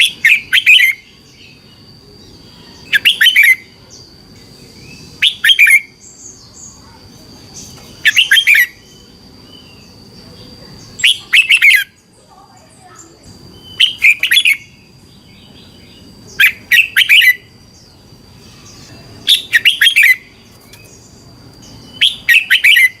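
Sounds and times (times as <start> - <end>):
bird singing warbled phrase: 0.0 - 23.0
faint steady high tone: 0.0 - 23.0.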